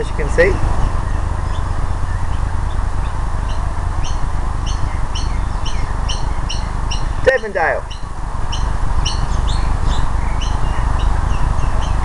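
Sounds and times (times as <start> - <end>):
bird chirping: 0.0 - 12.0
low background rumble: 0.0 - 12.0.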